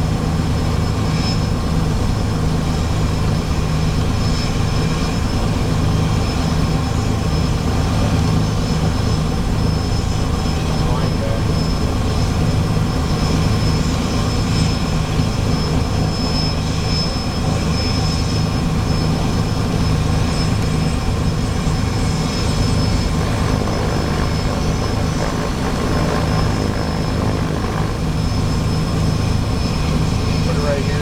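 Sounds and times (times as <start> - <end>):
light airplane engine droning: 0.0 - 31.0.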